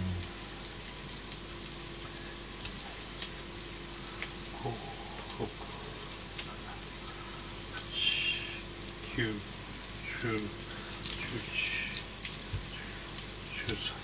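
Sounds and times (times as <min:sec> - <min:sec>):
dumplings sizzling in oil: 0:00.0 - 0:14.0.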